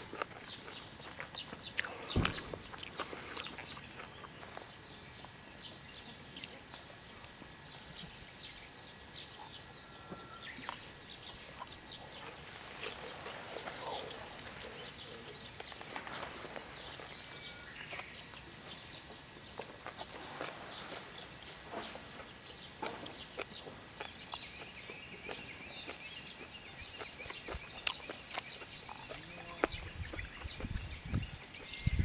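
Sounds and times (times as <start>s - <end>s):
crackles and pops: 0.0s - 8.6s, 10.5s - 31.8s
meat grilling over charcoal: 0.0s - 31.7s
birds calling: 0.0s - 32.0s.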